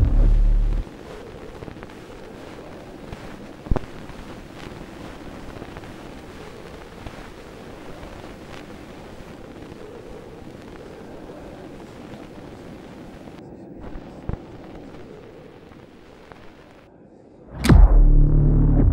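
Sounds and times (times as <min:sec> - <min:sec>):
faint crackles and clicks: 0:00.0 - 0:17.8
old film surface hiss: 0:00.9 - 0:16.9.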